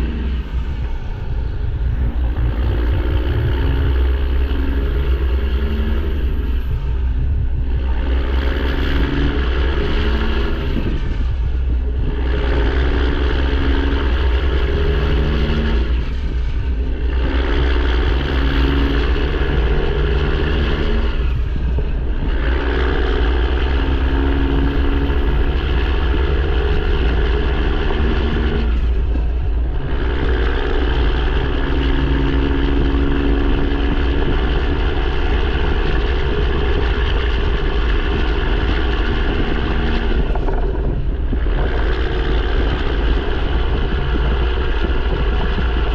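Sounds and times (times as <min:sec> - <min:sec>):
loud diesel truck engine: 0:00.0 - 0:45.9.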